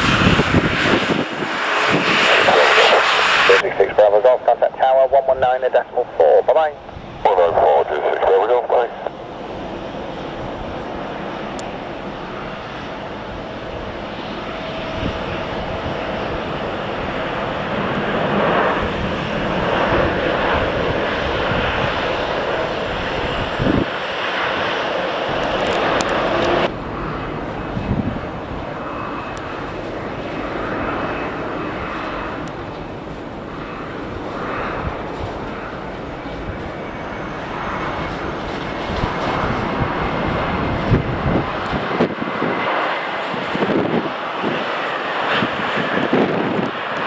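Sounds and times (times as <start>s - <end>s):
wind buffeting microphone: 0.0s - 4.2s, 6.8s - 7.8s, 9.4s - 24.1s, 25.3s - 47.0s
airliner engines roaring: 0.0s - 47.0s.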